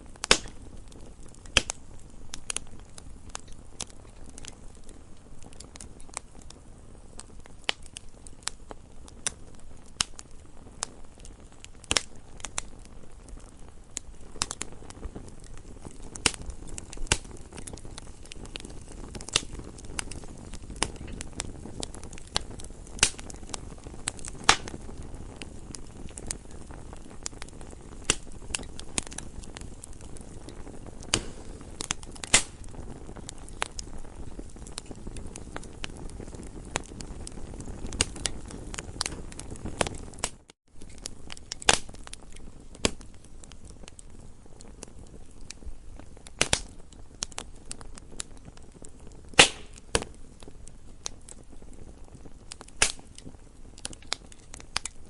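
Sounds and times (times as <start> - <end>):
campfire pops and snaps: 0.0 - 55.0
low rush of burning fire: 0.0 - 55.0.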